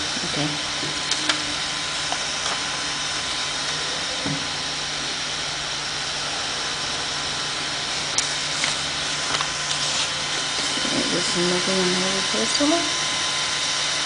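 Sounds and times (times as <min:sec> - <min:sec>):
printer fan whirring: 0:00.0 - 0:14.0.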